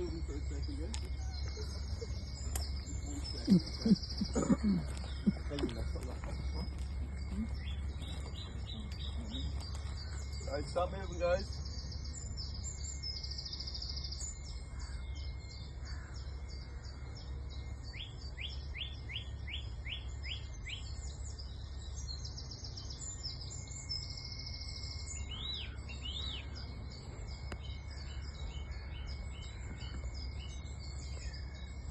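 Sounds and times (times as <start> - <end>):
birds singing and calling: 0.0 - 31.9
steady low rumble: 0.0 - 31.9.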